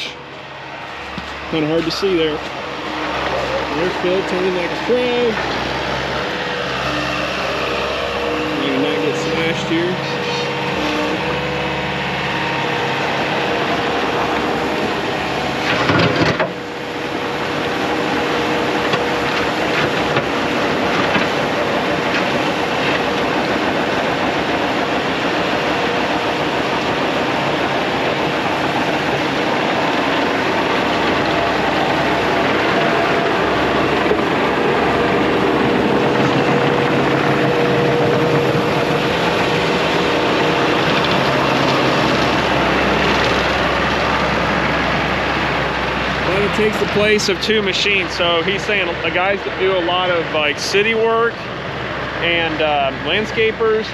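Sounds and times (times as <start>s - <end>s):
loader diesel engine and hydraulics: 0.0s - 53.9s
thin steady whine: 0.0s - 53.9s.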